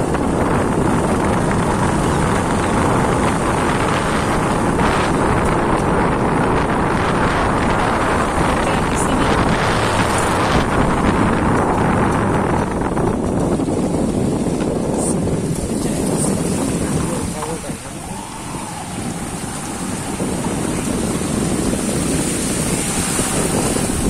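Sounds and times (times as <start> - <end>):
vehicle running noise: 0.0 - 24.0
wind buffeting microphone: 0.0 - 24.0.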